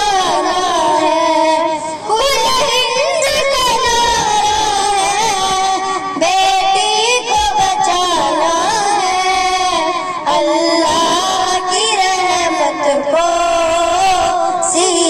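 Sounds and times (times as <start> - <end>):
girls singing into microphone: 0.0 - 15.0.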